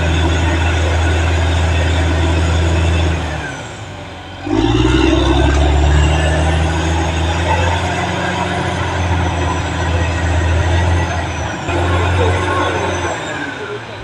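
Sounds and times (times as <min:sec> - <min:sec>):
bulldozer diesel engine running: 0:00.0 - 0:14.0
track clatter: 0:00.0 - 0:14.0.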